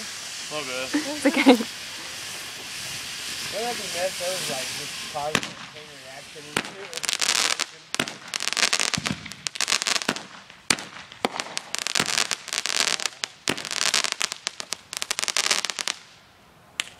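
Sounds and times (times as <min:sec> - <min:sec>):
sharp firework bangs: 0:00.0 - 0:16.1
firework shots hissing and crackling: 0:00.0 - 0:16.9.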